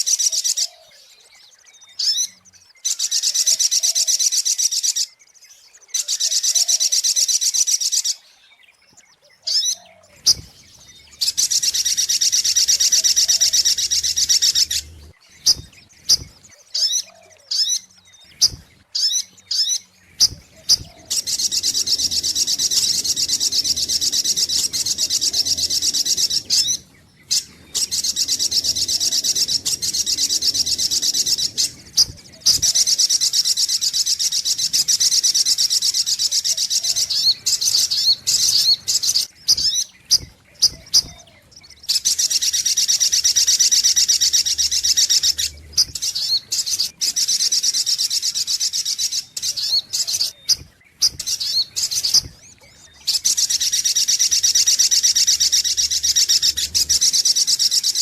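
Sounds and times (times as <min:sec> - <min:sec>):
sunbird high-pitched trills: 0:00.0 - 0:58.0.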